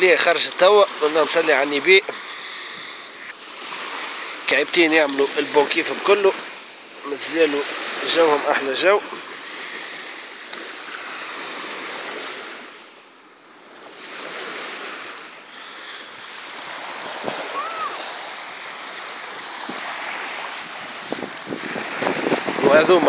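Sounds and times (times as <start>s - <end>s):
sea surf washing on beach: 0.0s - 23.0s.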